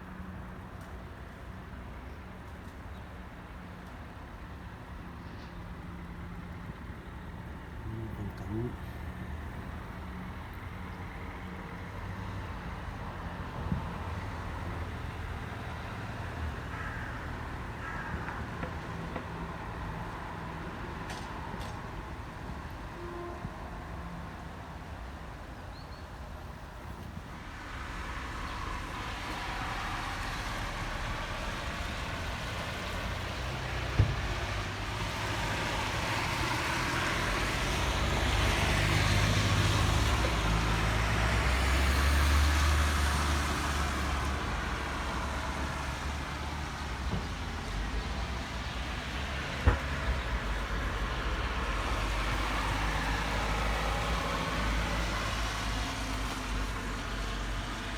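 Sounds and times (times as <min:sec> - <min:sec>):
vehicle engine and road noise: 0:00.0 - 0:57.9.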